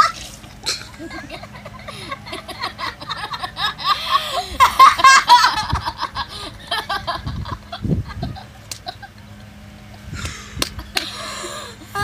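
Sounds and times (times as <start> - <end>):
girls laughing and giggling: 0.0 - 12.0.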